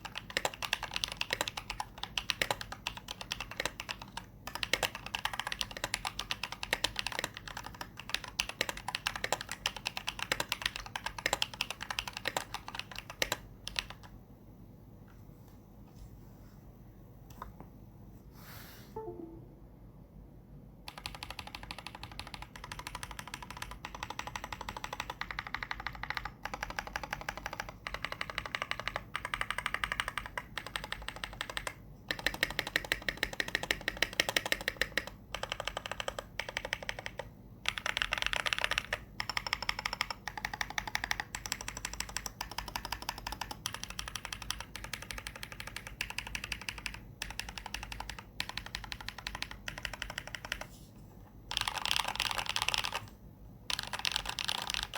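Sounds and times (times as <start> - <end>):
mechanical keyboard typing: 0.0 - 14.2, 20.9 - 50.7, 51.5 - 54.9.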